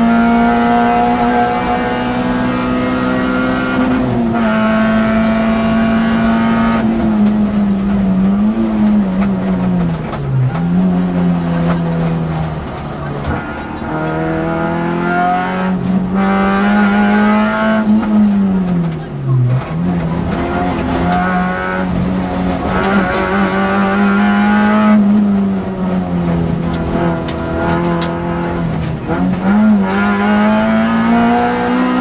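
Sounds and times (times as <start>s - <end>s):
rally car engine at high revs: 0.0s - 32.0s.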